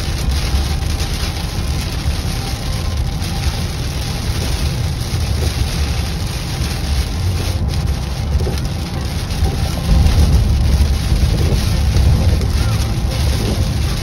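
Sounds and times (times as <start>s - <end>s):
low engine rumble: 0.0s - 14.0s
tyres hissing on wet road: 0.0s - 14.0s.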